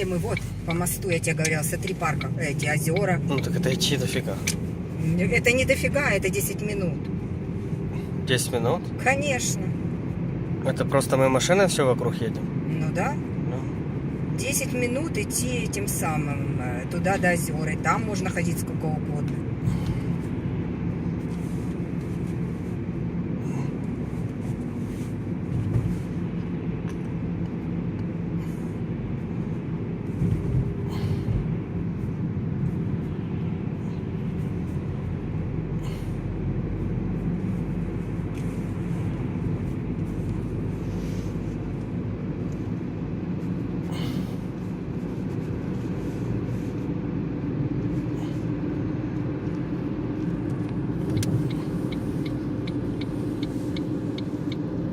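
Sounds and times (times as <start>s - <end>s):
road and engine rumble: 0.0s - 54.9s.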